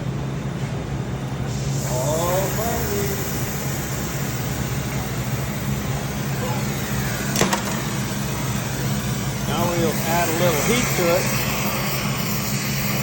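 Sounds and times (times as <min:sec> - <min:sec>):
torch flame hissing: 0:01.0 - 0:13.0.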